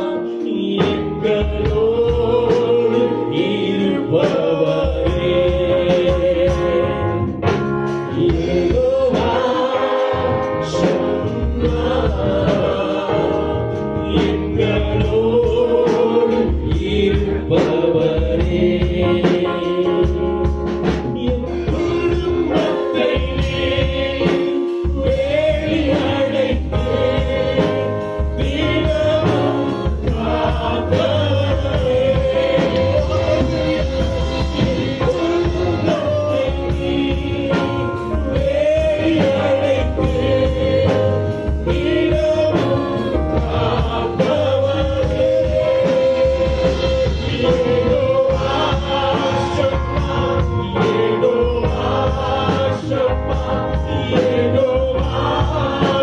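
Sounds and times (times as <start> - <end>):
men singing into microphones: 0.0 - 7.4, 8.0 - 56.0
drum kit steady beat: 0.0 - 56.0
electric bass: 0.0 - 56.0
keyboard: 0.0 - 56.0.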